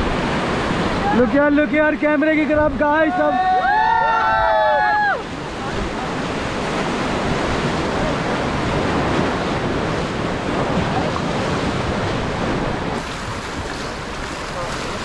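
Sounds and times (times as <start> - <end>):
river rapids rushing: 0.0 - 15.0
wind on microphone: 2.5 - 15.0.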